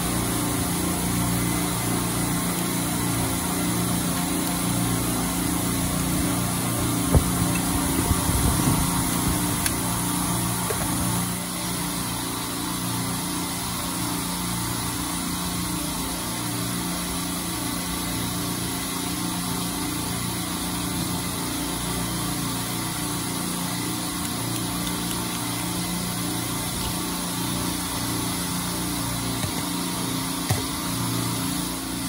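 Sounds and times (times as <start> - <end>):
machinery humming and whirring: 0.0 - 32.0.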